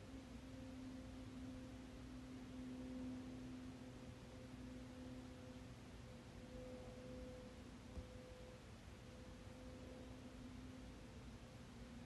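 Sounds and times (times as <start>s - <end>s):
faint steady hum: 0.0s - 12.0s
low rumble of background noise: 0.0s - 12.0s.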